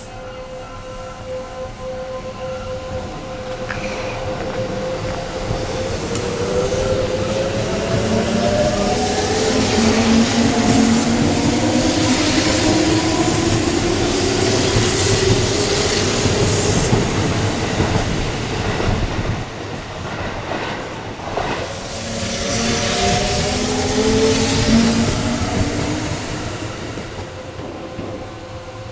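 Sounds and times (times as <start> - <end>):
train rumble and rail noise: 0.0 - 28.9.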